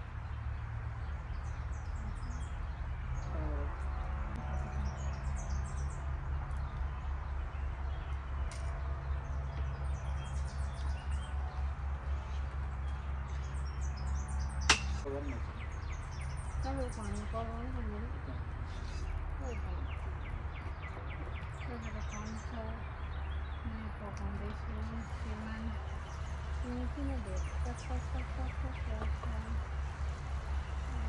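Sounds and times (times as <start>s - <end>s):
small birds chirping: 0.0s - 31.0s
steady low hum: 0.0s - 31.0s.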